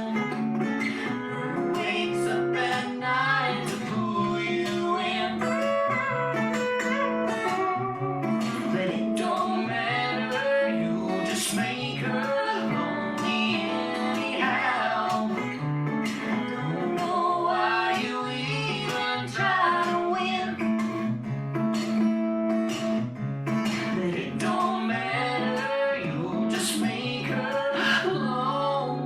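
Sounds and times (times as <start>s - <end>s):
country music on guitars: 0.0s - 29.0s.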